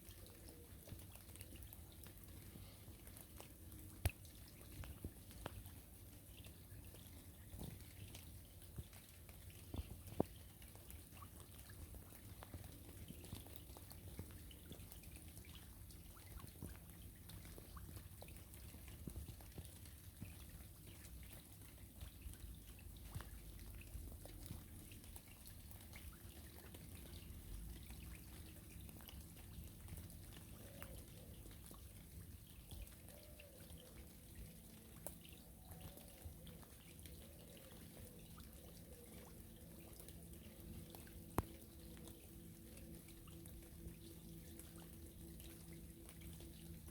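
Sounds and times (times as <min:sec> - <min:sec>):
rain drops ticking on water: 0:00.0 - 0:46.9.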